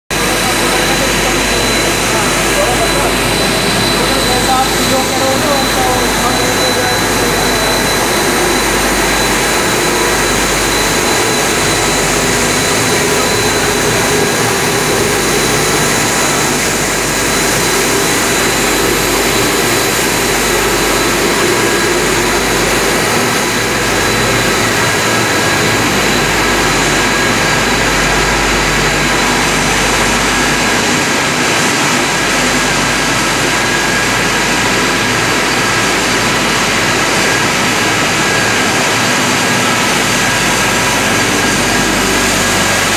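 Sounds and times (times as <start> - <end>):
motors and cooling fans running: 0.1 - 42.9
thin high whine: 0.1 - 42.9.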